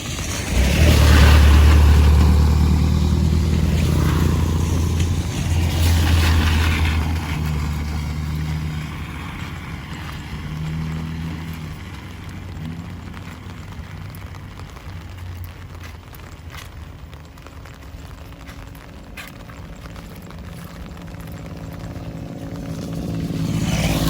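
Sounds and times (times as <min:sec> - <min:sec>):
vehicle passing by: 0:00.0 - 0:16.7, 0:18.7 - 0:24.0
steady rain: 0:00.0 - 0:24.0.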